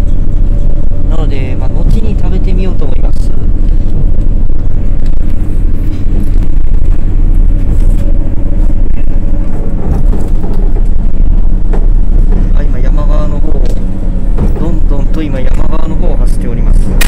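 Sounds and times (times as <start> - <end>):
railcar engine and wheels rumbling: 0.0 - 17.0.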